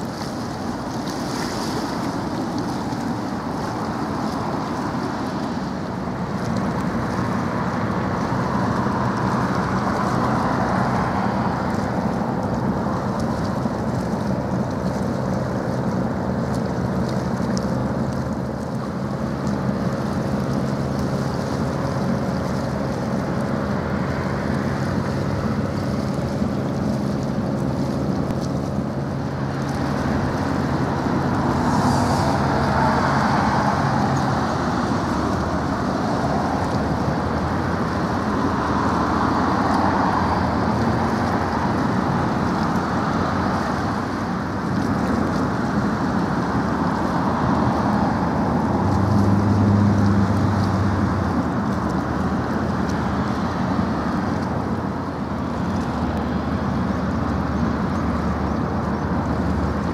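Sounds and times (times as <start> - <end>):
boat engine hum: 0.0 - 59.9
water rushing: 0.0 - 59.9
wind: 0.0 - 59.9.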